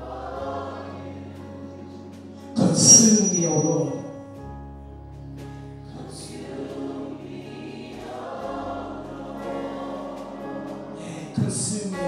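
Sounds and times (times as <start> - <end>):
choir singing gospel music: 0.0 - 12.0.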